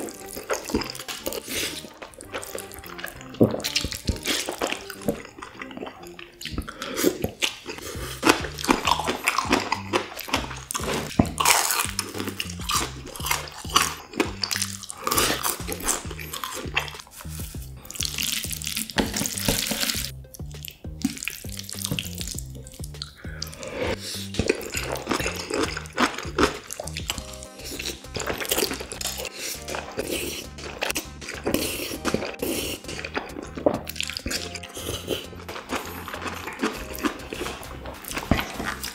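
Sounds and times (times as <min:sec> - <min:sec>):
background music with bass: 0:00.0 - 0:38.9
noodles slurped and chewed: 0:00.0 - 0:38.9.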